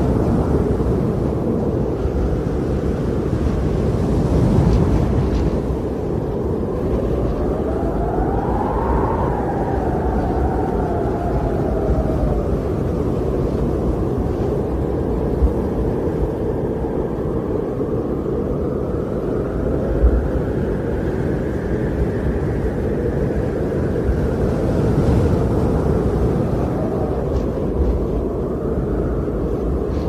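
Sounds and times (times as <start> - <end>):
wind blowing: 0.0 - 30.0.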